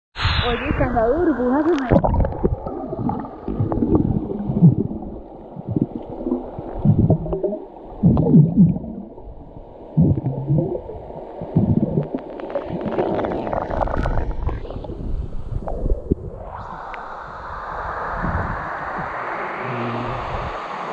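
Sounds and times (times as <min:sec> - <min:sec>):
muffled water gurgling: 0:00.2 - 0:17.4.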